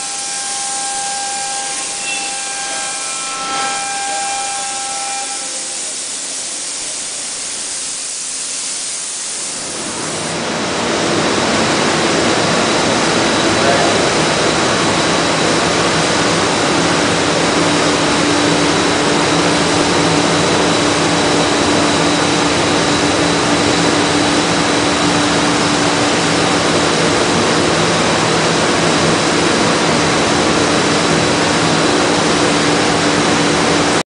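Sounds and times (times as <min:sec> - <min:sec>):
thin high whine: 0:00.0 - 0:34.0.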